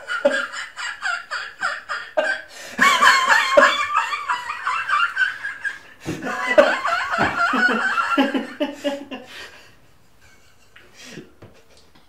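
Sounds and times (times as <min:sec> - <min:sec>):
men laughing: 0:00.0 - 0:11.8.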